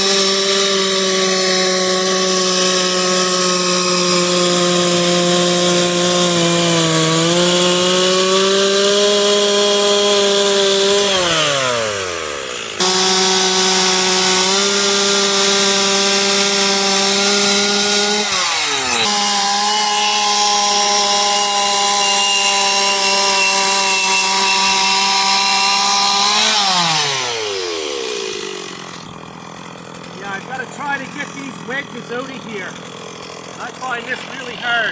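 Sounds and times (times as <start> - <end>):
chainsaw revving carving wood: 0.0 - 34.9.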